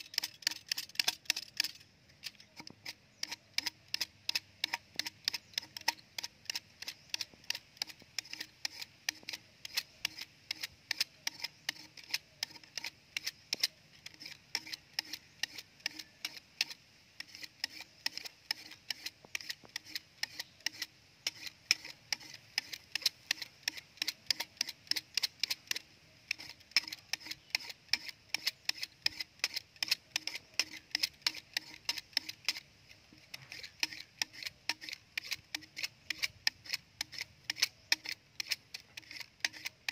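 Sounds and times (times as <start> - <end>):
knife scraping bamboo: 0.0 - 39.9.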